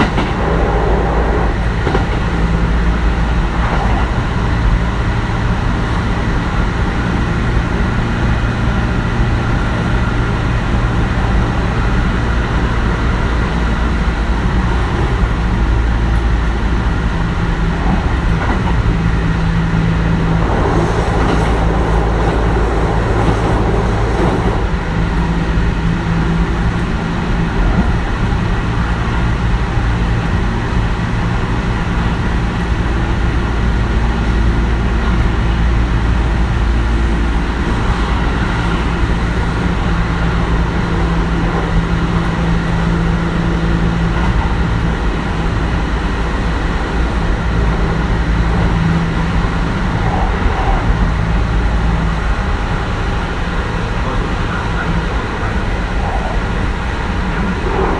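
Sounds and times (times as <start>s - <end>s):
traction equipment hum: 0.0s - 57.9s
wheels rumbling on rail: 0.0s - 57.9s.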